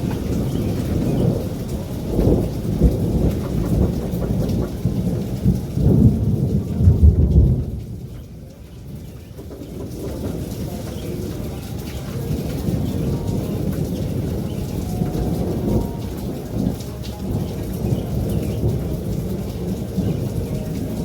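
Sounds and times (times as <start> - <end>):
steady rain: 0.0 - 21.0
thunder rolling: 0.0 - 21.0.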